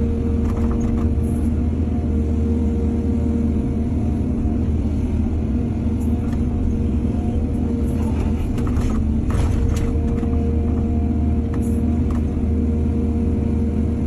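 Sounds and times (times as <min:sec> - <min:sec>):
diesel excavator engine running: 0:00.0 - 0:14.0.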